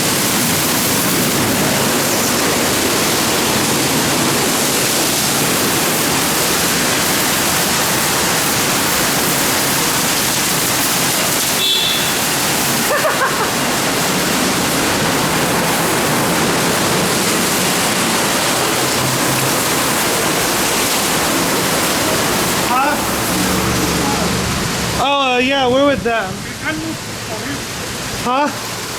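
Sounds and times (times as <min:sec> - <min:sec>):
water spraying onto car: 0:00.0 - 0:28.9.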